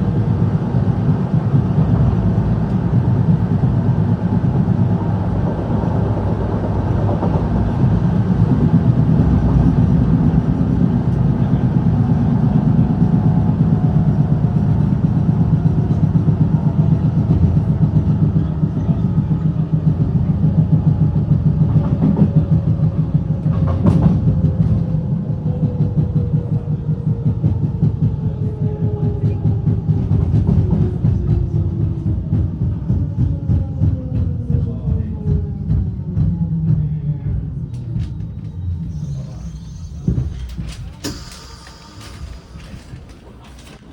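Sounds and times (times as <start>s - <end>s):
train rattling: 0.0s - 43.9s.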